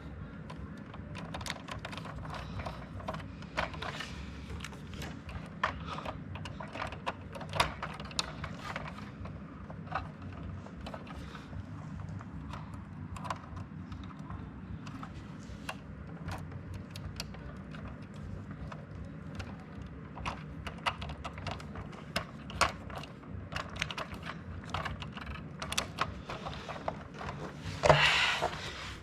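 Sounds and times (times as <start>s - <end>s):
steady low hum: 0.0s - 29.0s
light clicks and taps on cable: 0.4s - 28.0s.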